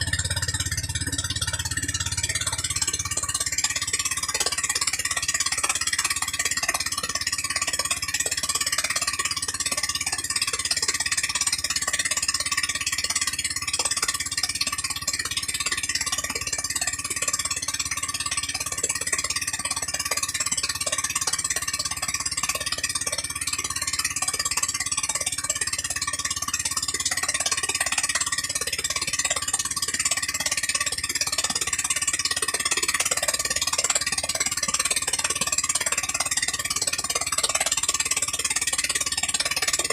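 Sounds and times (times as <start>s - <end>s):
gasoline engine running: 0.0s - 39.9s.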